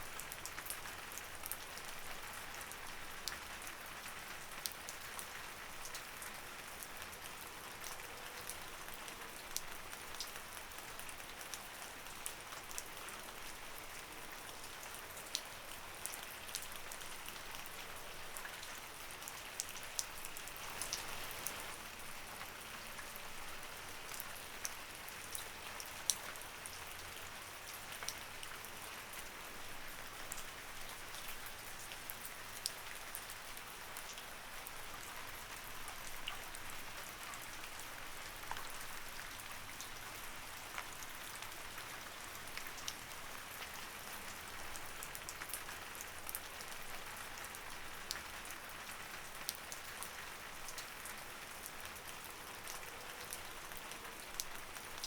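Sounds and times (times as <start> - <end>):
light rain hiss: 0.0 - 55.0
raindrops ticking on a surface: 0.0 - 55.0.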